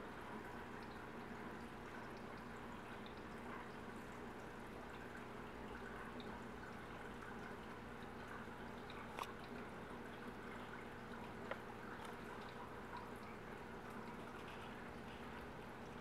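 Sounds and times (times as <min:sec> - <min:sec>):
aquarium water trickling and bubbling: 0:00.0 - 0:16.0
steady electric hum: 0:00.0 - 0:16.0.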